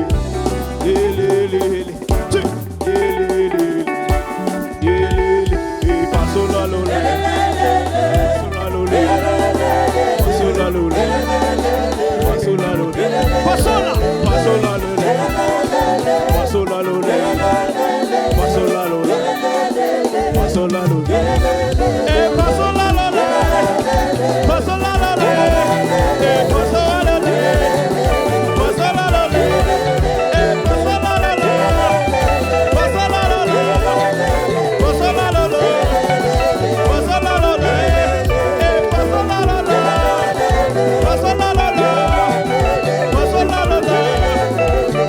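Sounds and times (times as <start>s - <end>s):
band with bouncing bass line: 0.0s - 45.0s
gospel singing: 0.0s - 45.0s.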